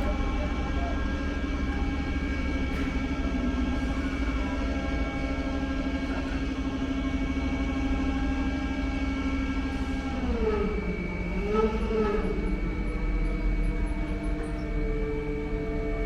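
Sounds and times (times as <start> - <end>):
heavy truck engine running: 0.0 - 16.0.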